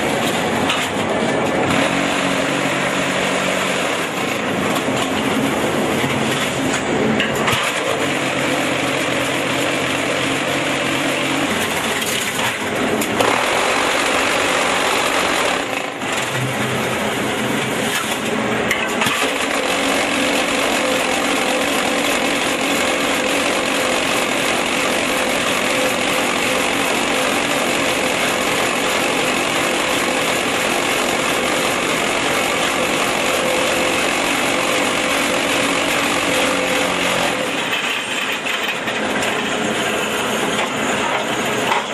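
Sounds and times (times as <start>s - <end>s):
block making machine running: 0.0s - 41.9s.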